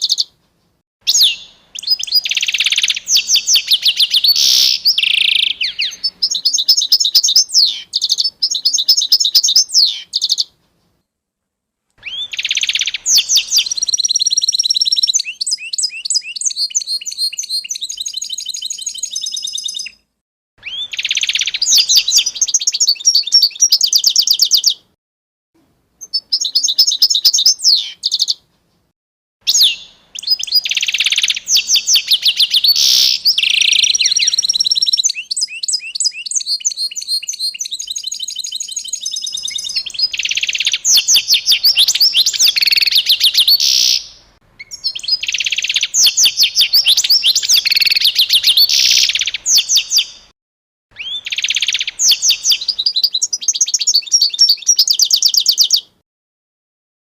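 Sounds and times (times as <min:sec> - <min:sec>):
songbirds chirping and trilling: 0:01.1 - 0:11.0, 0:12.0 - 0:25.0, 0:26.0 - 0:28.9, 0:29.5 - 0:50.3, 0:50.9 - 0:56.0.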